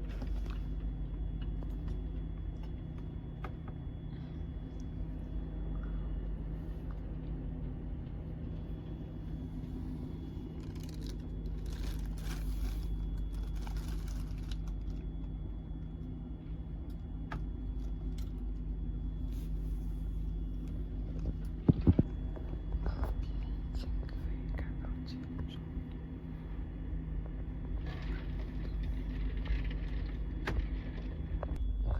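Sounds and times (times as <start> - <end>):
train carriage rumble and hum: 0.0 - 31.9.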